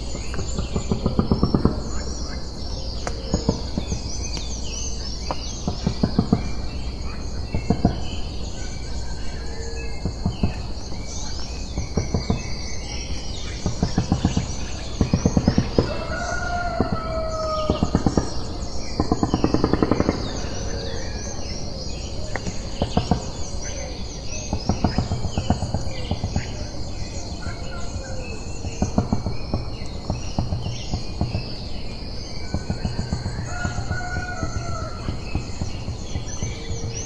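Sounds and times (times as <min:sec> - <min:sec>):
birds chirping: 0:00.0 - 0:37.0
high insect drone: 0:00.0 - 0:37.0
rapid rattling bird calls: 0:00.0 - 0:37.0.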